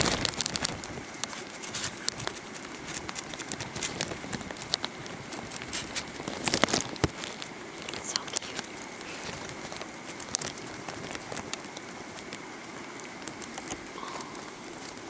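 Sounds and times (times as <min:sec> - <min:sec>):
skunk rustling in trash: 0:00.0 - 0:15.0.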